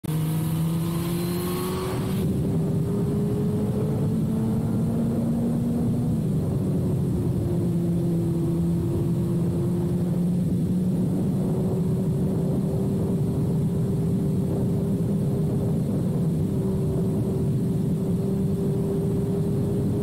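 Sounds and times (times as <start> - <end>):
motorcycle engine under way: 0.0 - 20.0.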